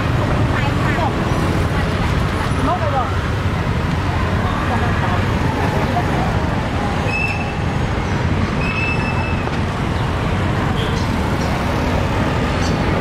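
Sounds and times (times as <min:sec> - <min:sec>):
busy street traffic: 0:00.0 - 0:13.0.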